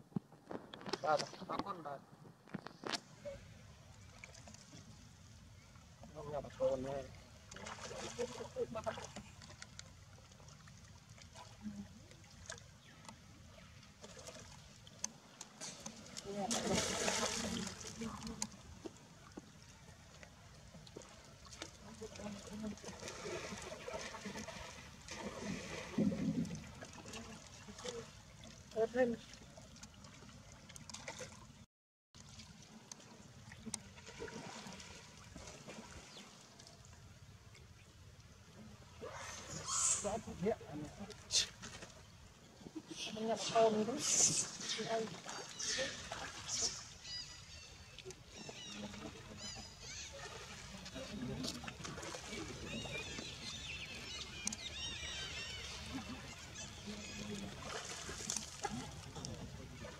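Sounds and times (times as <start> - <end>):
water lapping and trickling: 0.0 - 59.9.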